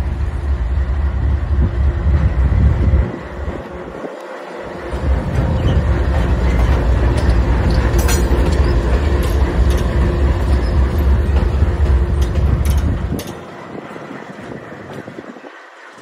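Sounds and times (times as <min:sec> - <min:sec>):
diesel locomotive engine rumbling: 0:00.0 - 0:16.0
train wheels rolling on rails: 0:00.0 - 0:16.0.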